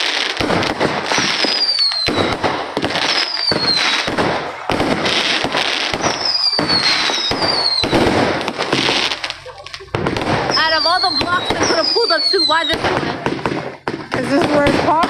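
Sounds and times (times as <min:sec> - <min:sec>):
firework whistles falling in pitch: 0:00.0 - 0:13.0
fireworks crackling and banging: 0:00.0 - 0:15.0.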